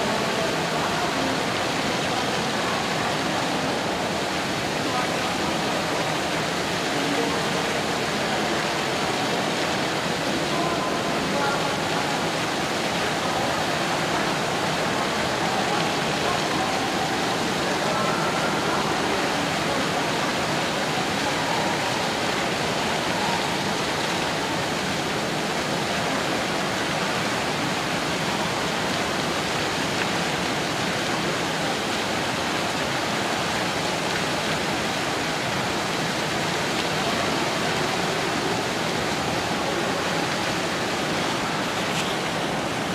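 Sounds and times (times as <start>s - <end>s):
faint murmur of voices: 0.0s - 42.9s
fountain water splashing: 0.0s - 42.9s.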